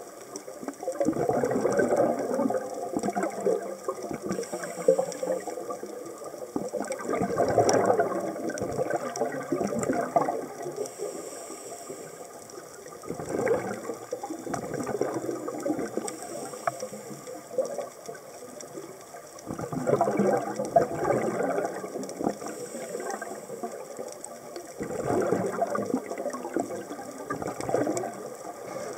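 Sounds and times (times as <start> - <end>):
diver's bubbles gurgling: 0.0 - 28.9
underwater crackling: 0.0 - 28.9.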